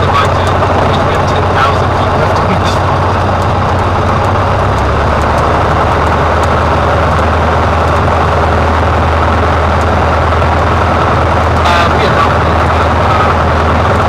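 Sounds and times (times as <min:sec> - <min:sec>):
airflow noise: 0:00.0 - 0:14.0
light aircraft engine drone: 0:00.0 - 0:14.0.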